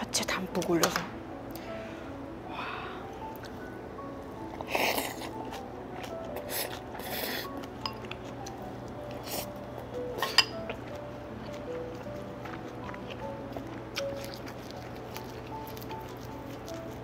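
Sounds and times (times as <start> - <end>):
soft background music: 0.0 - 17.0
close eating noises: 1.5 - 17.0.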